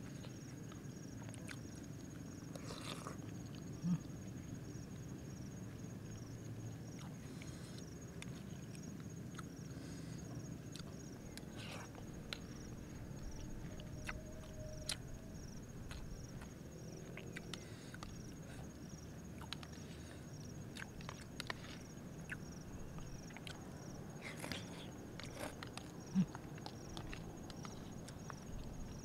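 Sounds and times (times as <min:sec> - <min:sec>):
chewing: 0:00.0 - 0:04.6, 0:05.7 - 0:29.0
night insects trilling: 0:00.0 - 0:29.0.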